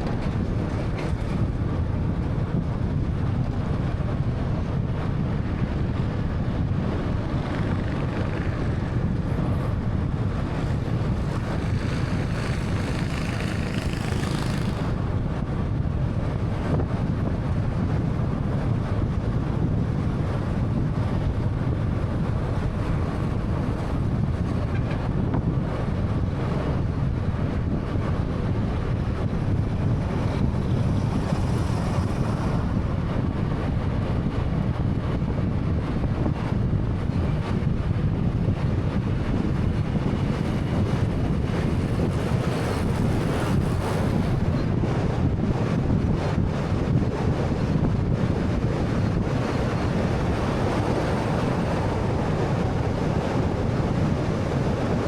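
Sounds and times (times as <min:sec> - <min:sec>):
tyre and road rumble: 0:00.0 - 0:15.5, 0:18.6 - 0:55.0.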